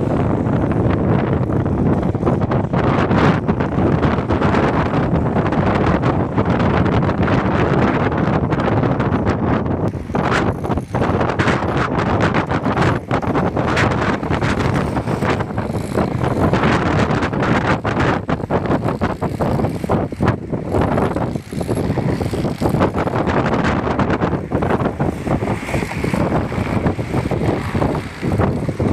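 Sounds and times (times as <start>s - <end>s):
gusty wind buffeting microphone: 0.0s - 28.9s.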